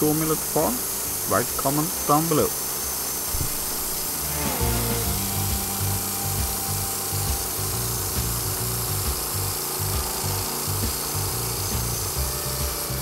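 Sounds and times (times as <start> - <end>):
saw band hissing through wood: 0.0 - 13.0
sawmill engine drone: 0.0 - 13.0.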